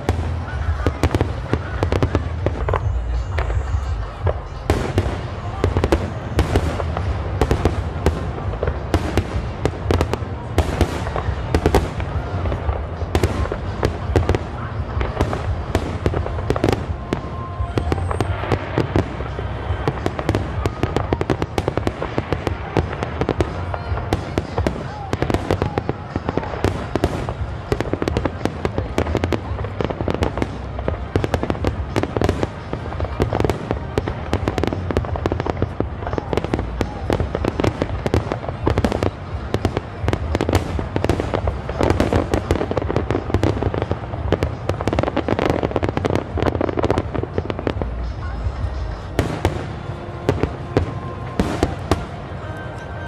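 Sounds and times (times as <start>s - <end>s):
fireworks cracks and bangs: 0.0s - 53.0s.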